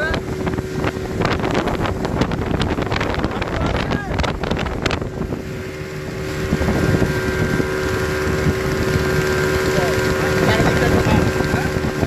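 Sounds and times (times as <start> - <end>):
speedboat engine whine: 0.0 - 12.0
wind on microphone: 0.0 - 12.0.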